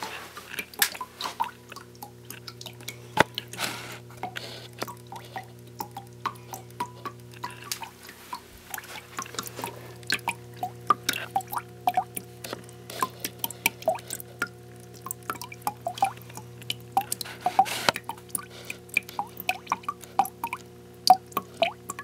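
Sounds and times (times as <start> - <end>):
pump humming: 0.0 - 22.0
water dripping and splashing: 0.0 - 22.0.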